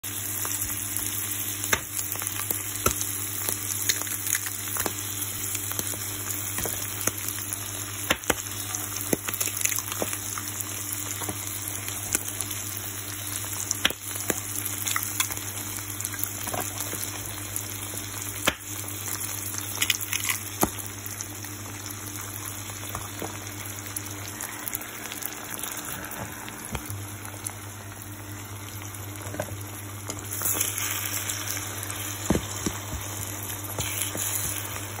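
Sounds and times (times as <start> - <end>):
food sizzling in frying pan: 0.0 - 35.0.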